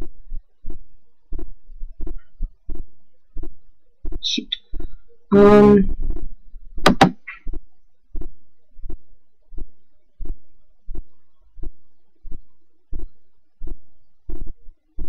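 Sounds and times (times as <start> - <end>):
low thumping beat: 0.0 - 14.7.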